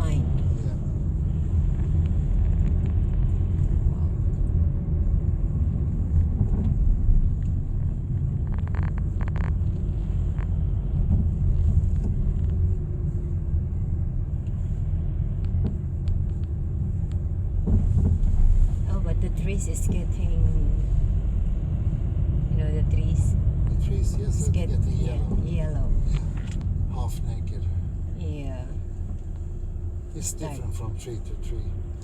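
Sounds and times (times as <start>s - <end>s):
road and engine rumble: 0.0s - 32.0s.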